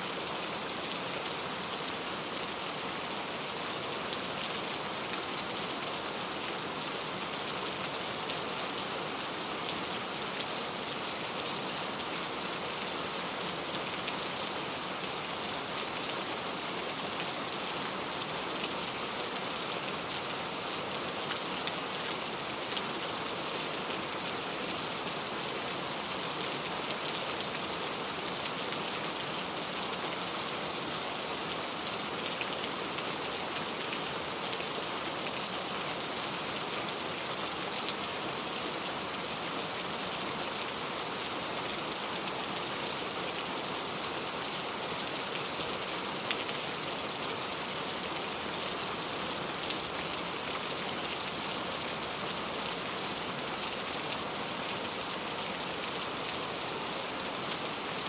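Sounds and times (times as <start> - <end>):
steady rain with ticking drops: 0.0 - 58.0.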